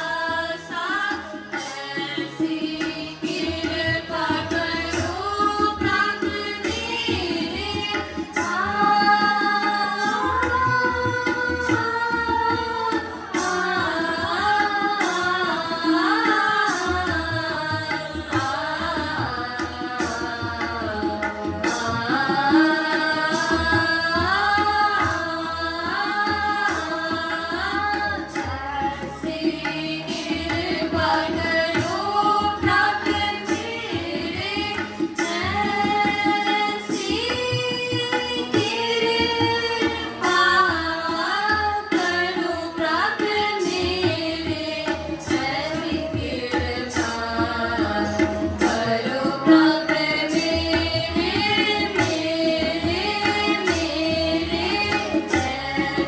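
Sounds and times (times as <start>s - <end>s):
person singing a devotional hymn: 0.0s - 56.0s
tabla drumming: 0.0s - 56.0s.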